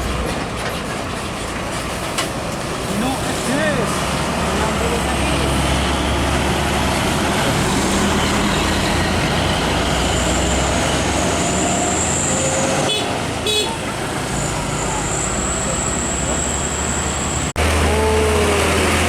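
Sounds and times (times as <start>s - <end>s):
diesel truck passing: 0.0s - 19.0s
tyre and road noise: 0.0s - 19.0s.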